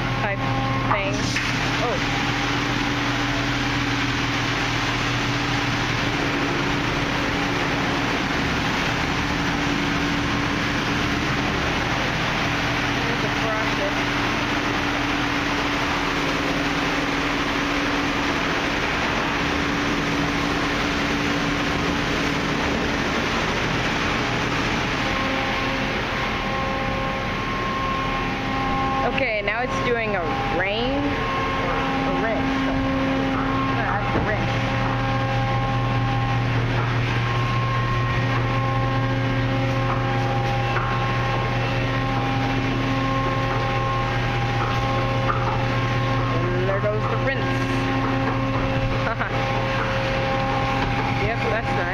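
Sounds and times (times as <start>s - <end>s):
car wash machinery rushing: 0.0s - 51.9s
low hum: 0.0s - 51.9s.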